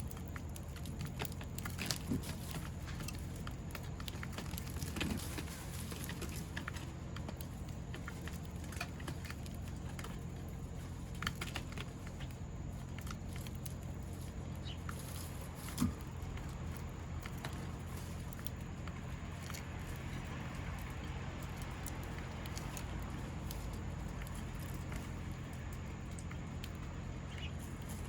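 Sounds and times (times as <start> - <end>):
birds pecking at a feeder: 0.0 - 28.0
steady low hum: 0.0 - 28.0.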